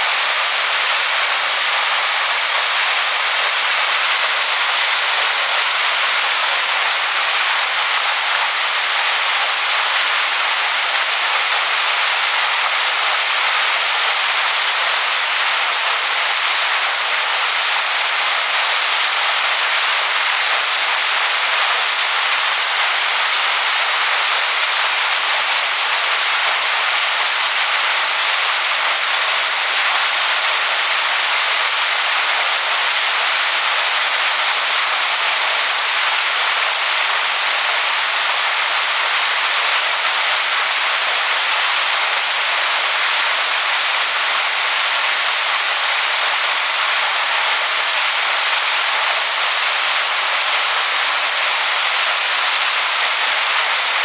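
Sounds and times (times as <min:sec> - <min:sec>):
waterfall rushing onto rocks: 0:00.0 - 0:54.0.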